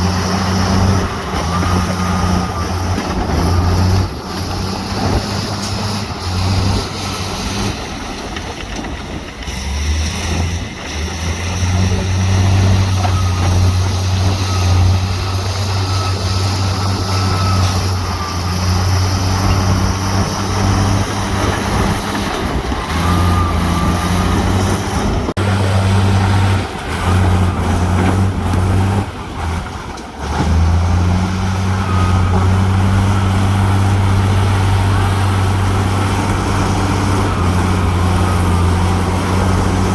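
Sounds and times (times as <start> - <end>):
heavy diesel engine hum: 0.0 - 39.9.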